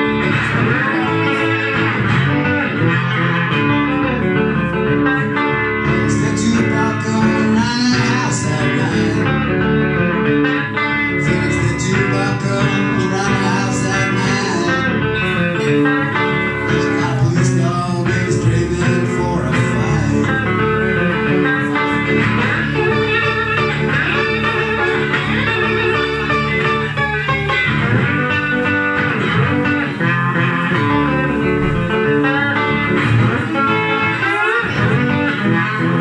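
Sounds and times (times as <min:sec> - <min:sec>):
electric guitar playing blues: 0:00.0 - 0:36.0.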